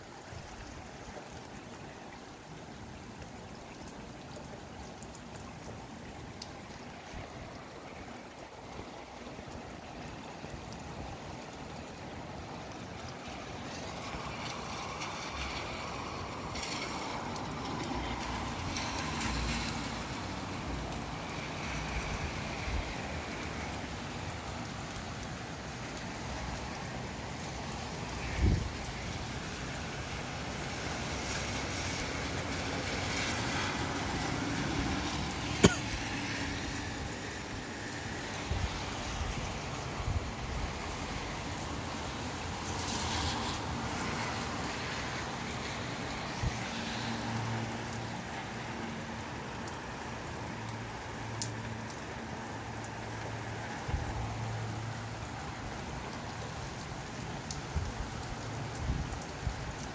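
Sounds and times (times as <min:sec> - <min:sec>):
rain falling with wind: 0:00.0 - 0:59.9.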